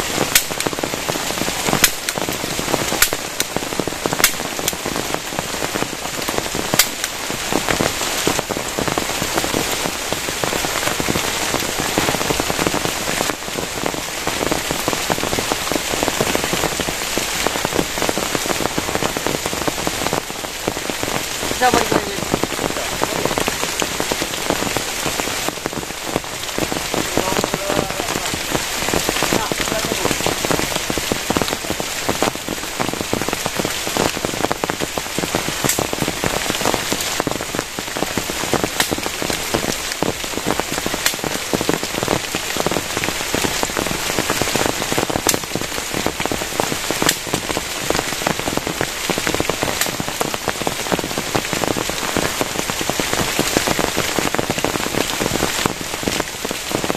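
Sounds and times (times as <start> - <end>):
heavy rain on plastic sheet: 0.0 - 56.9.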